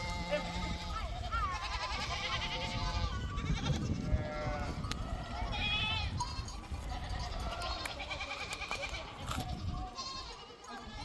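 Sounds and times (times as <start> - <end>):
sheep and goats bleating: 0.0 - 11.0.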